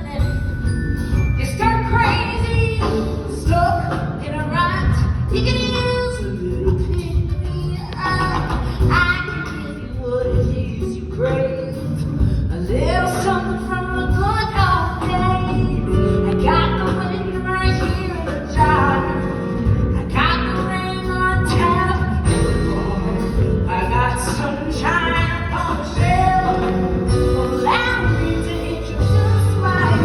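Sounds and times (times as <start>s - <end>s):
band accompaniment: 0.0s - 30.0s.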